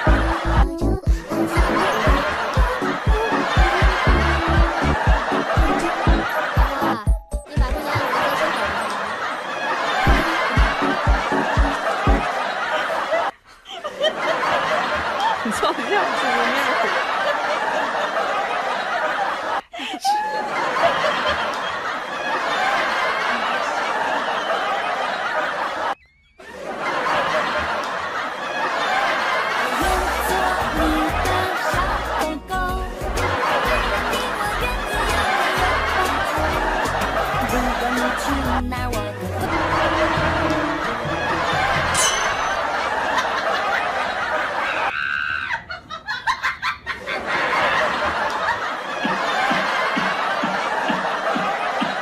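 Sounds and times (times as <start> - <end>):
crowd laughing: 0.0 - 52.0.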